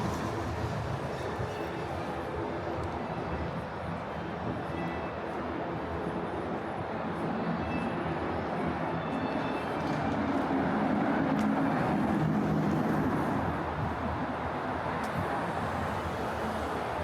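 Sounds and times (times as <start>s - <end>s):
city noise: 0.0s - 17.0s.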